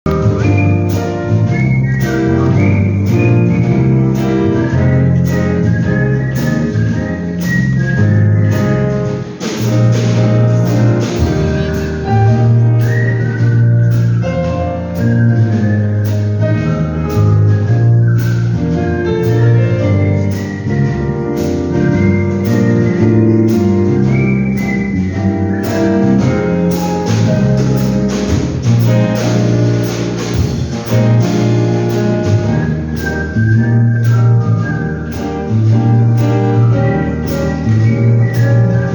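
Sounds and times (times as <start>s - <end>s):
instrumental accompaniment with beat: 0.0s - 38.9s
whistled melody: 0.0s - 38.9s.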